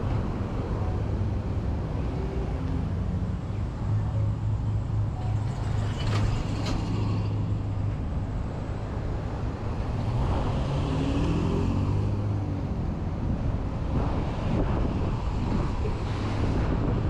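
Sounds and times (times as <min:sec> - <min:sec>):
vehicle engines humming: 0:00.0 - 0:17.0.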